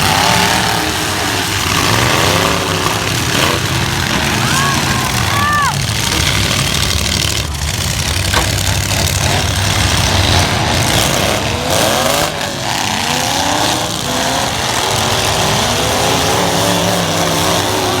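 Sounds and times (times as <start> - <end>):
truck engines revving: 0.0 - 18.0.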